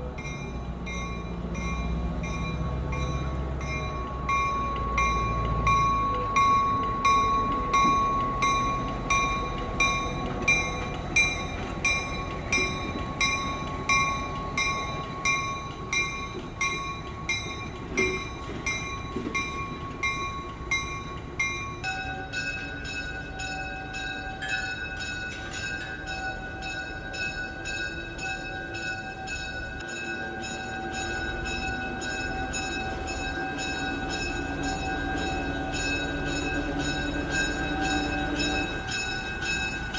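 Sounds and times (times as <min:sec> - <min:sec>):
railroad bell ringing: 0:00.0 - 0:39.9
train noise: 0:00.0 - 0:39.9.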